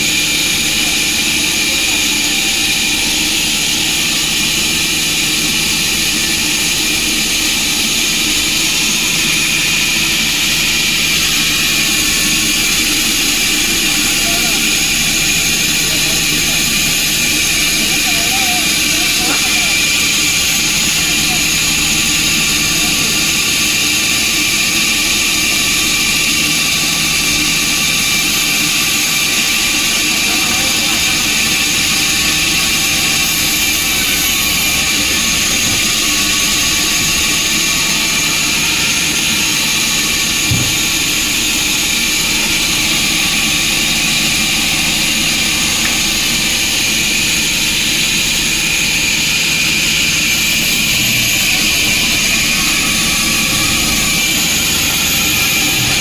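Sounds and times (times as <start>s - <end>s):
high mechanical whine: 0.0s - 56.0s
sawmill machinery running: 0.0s - 56.0s.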